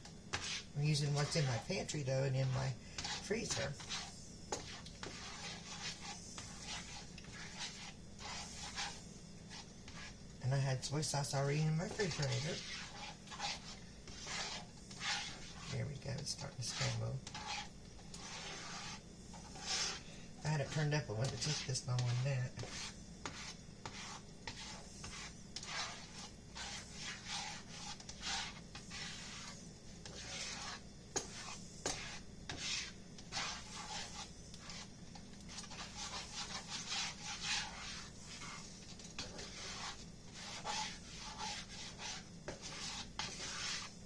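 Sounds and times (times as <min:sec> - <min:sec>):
utensil scraping frying pan: 0:00.0 - 0:10.2, 0:11.1 - 0:44.0.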